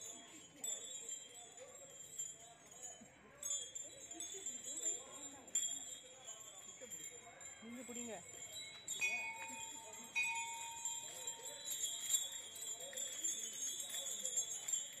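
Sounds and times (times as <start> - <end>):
elephant bells jingling: 0.0 - 15.0.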